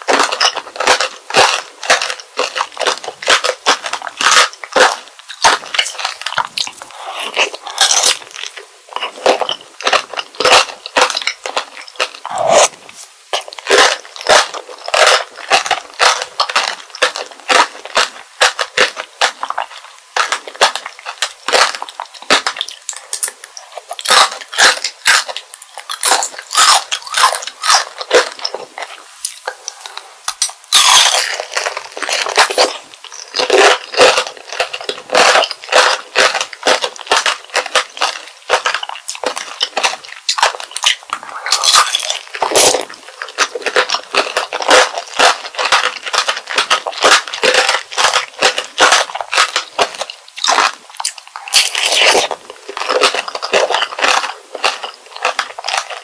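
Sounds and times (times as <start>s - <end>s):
bite into candied strawberry: 0.0s - 56.0s
candy coating crunching in mouth: 0.0s - 56.0s.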